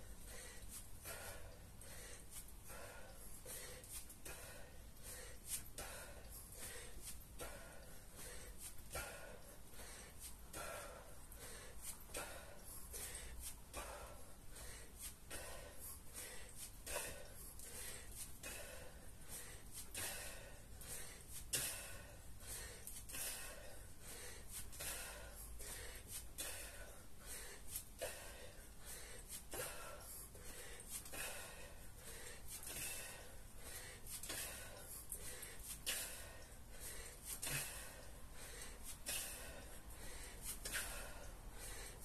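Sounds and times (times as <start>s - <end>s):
man breathing hard: 0.0s - 42.0s.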